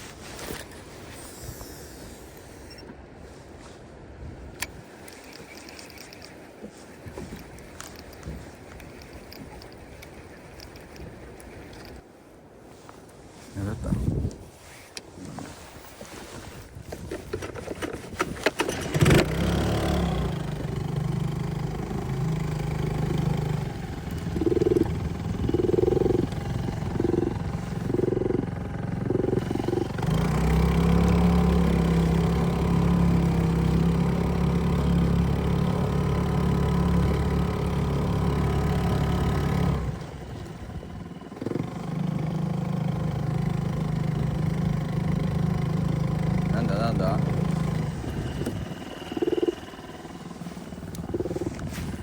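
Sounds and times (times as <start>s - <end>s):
outboard motor running: 4.6s - 12.0s, 16.8s - 52.0s.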